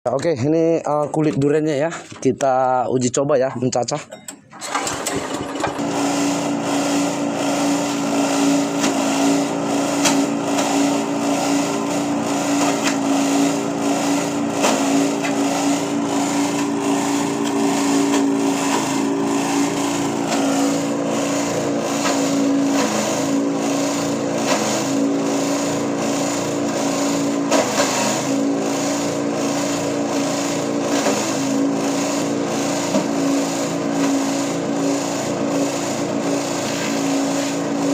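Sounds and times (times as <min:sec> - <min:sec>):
grass chopper running: 0:04.6 - 0:37.9.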